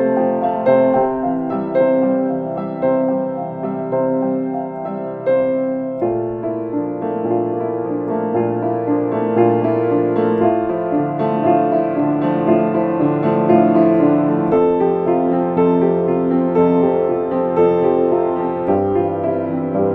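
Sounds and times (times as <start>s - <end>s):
slow calm solo piano: 0.0s - 19.9s.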